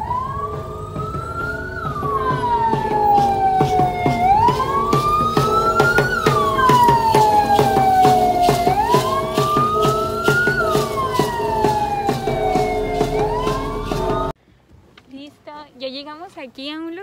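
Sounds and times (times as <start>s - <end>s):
siren wailing: 0.0s - 14.4s
steady drumbeat: 0.0s - 14.4s.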